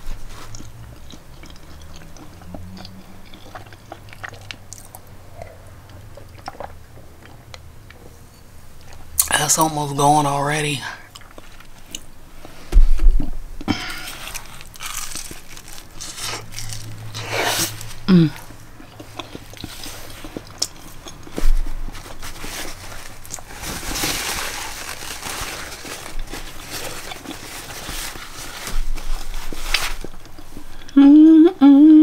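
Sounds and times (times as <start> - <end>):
person biting and chewing: 0.0 - 8.0, 11.1 - 31.0.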